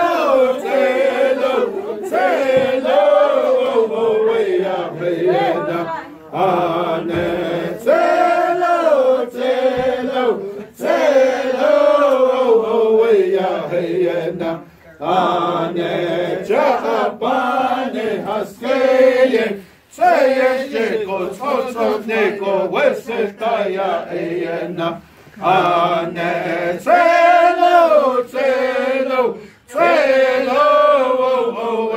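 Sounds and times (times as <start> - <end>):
men singing in unison: 0.0 - 31.9.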